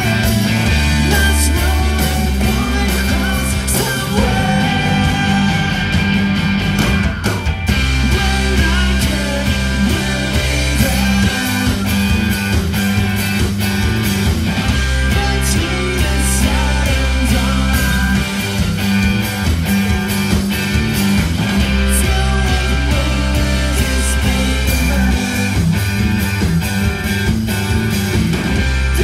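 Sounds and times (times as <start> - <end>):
bass guitar: 0.0 - 29.0
drums: 0.0 - 29.0
electric guitars: 0.0 - 29.0.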